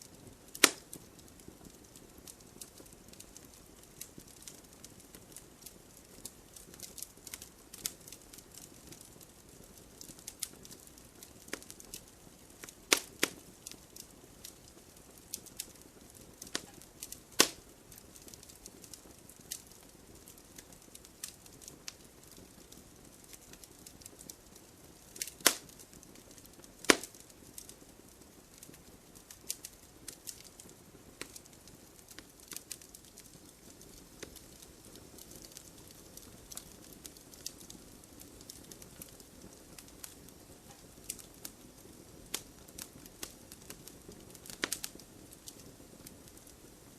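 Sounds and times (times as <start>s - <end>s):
low rush of flames: 0.0s - 46.9s
wood fire crackling: 0.0s - 46.9s.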